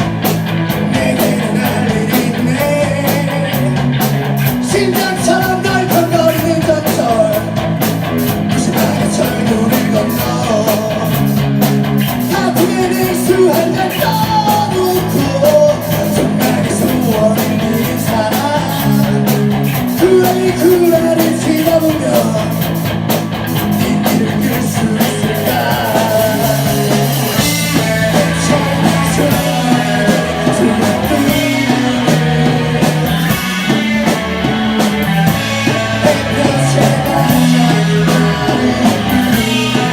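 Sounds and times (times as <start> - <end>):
bass guitar: 0.0 - 39.9
drums: 0.0 - 39.9
electric guitars: 0.0 - 39.9
person singing: 0.7 - 7.7, 8.4 - 11.4, 12.2 - 22.8, 23.6 - 39.9.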